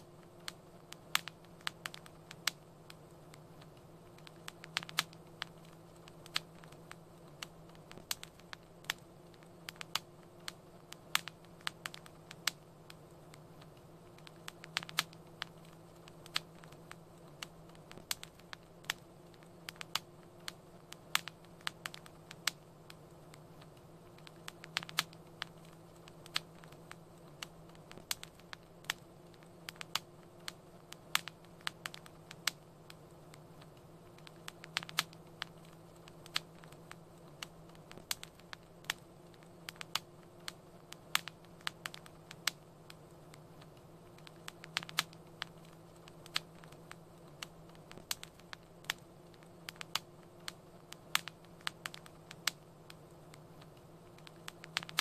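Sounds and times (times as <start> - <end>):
faint low hum: 0.0 - 55.0
wood fire crackling: 0.0 - 55.0.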